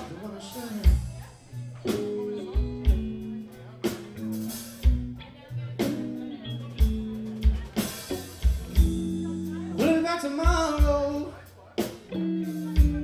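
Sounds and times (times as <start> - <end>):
bass guitar: 0.0 - 13.0
electric guitar chords: 0.0 - 13.0.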